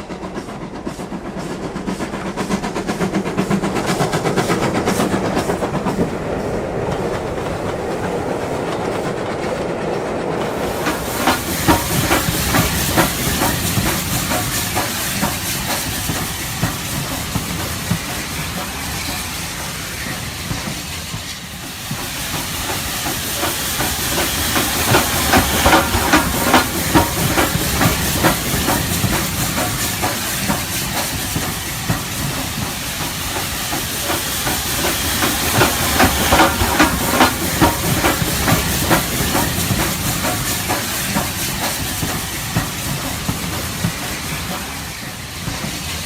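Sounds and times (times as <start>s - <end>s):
fast steam locomotive chuffing: 0.0s - 46.0s
steam hiss: 0.0s - 46.0s.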